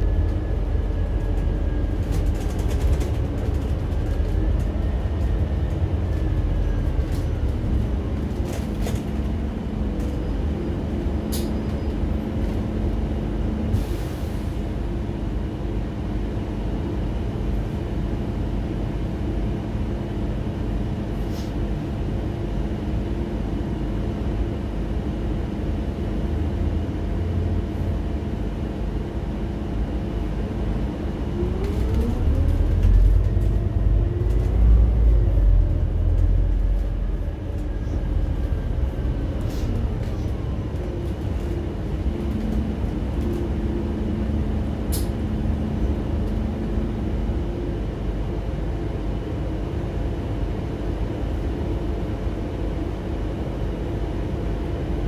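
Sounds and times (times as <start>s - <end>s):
road rumble: 0.0s - 25.1s, 25.7s - 55.0s
bus engine: 0.0s - 55.0s.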